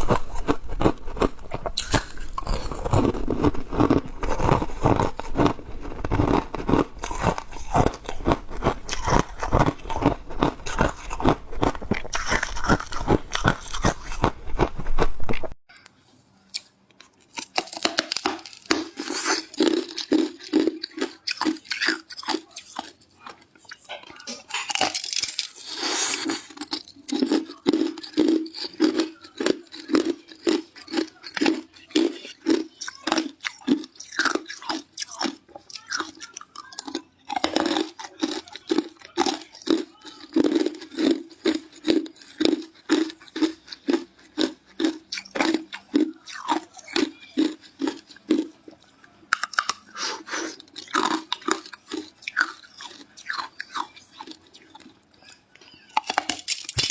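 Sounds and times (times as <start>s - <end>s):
ice cubes being chewed: 0.0s - 15.6s, 16.6s - 56.9s.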